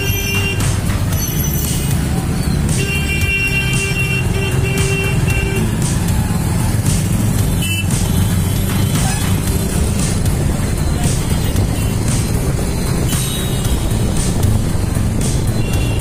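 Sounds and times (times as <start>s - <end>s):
road and traffic noise: 0.0s - 16.0s
motorbike engine running: 2.0s - 16.0s.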